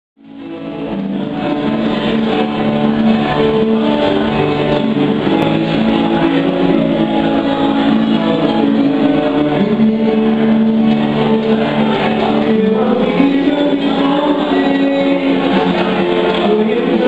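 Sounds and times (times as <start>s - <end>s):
live band with electric keyboard: 0.2s - 17.0s.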